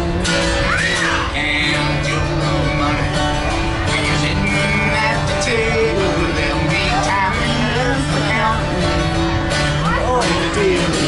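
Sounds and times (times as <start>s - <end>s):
person singing: 0.0s - 9.1s, 9.8s - 11.0s
acoustic guitar: 0.0s - 11.0s.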